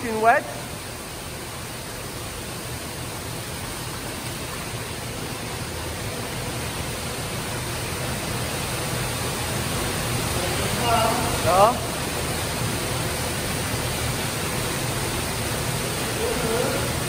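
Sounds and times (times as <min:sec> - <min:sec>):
waterfall splashing into pool: 0:00.0 - 0:17.0.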